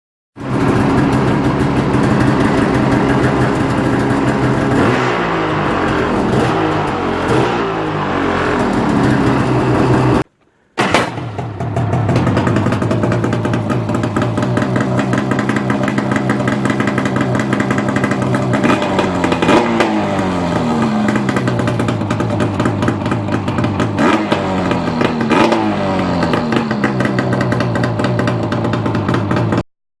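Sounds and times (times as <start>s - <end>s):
snowmobile engine idling and revving: 0.4s - 10.3s, 11.2s - 29.6s.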